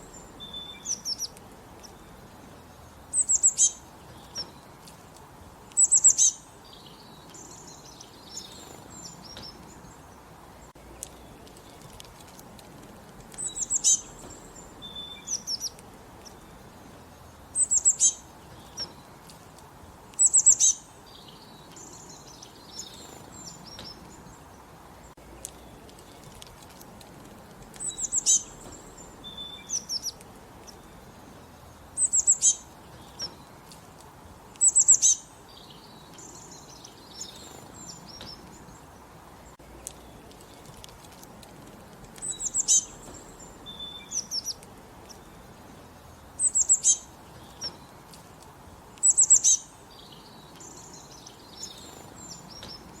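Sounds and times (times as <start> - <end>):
birds chirping softly: 0.0 - 53.0
songbird singing falling notes: 0.0 - 53.0.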